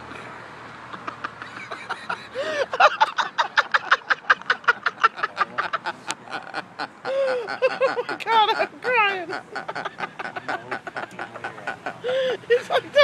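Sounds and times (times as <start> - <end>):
person laughing hysterically: 1.0 - 13.0.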